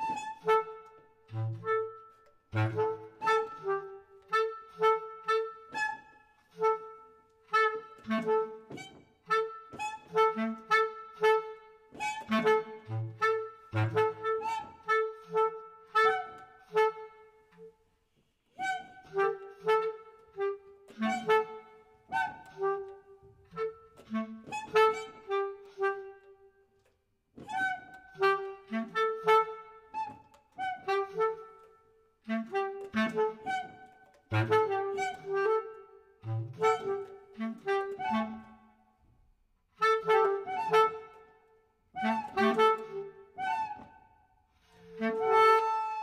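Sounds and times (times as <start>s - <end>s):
bass clarinets playing staccato notes: 0.0s - 17.5s, 18.6s - 26.5s, 27.4s - 38.8s, 39.8s - 41.4s, 42.0s - 46.0s.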